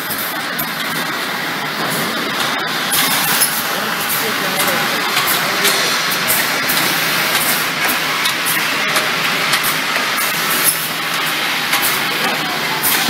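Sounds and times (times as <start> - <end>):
bottling line mechanical noise: 0.0 - 13.0
glass bottles clinking: 1.9 - 13.0.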